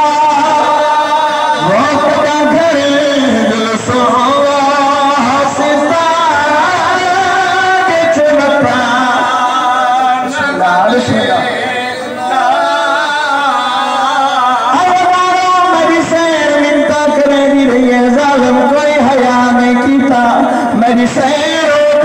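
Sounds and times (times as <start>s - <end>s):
man singing a lament: 0.0s - 22.0s.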